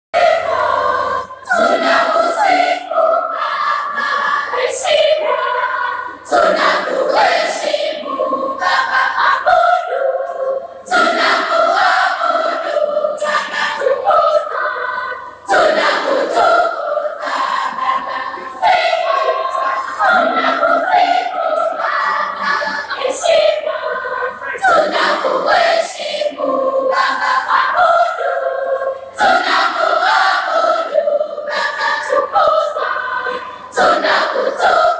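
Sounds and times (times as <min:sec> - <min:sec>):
choir singing in parts: 0:00.2 - 0:34.9.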